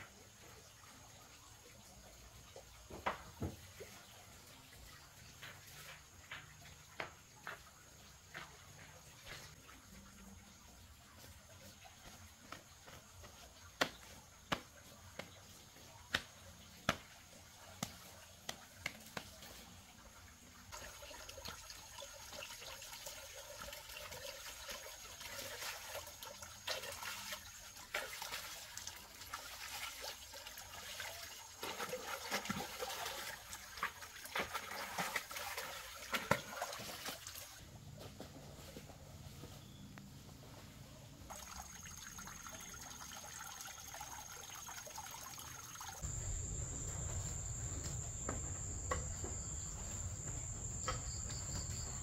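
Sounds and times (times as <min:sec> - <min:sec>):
water splashing and trickling: 0:00.0 - 0:37.8, 0:41.0 - 0:52.0.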